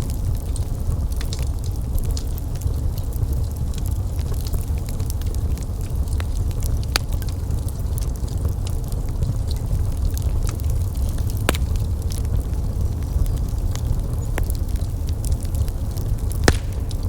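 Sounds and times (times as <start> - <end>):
fire flames rumbling: 0.0 - 17.0
wood fire crackling: 0.0 - 17.0
sharp pops from fire: 0.1 - 17.0.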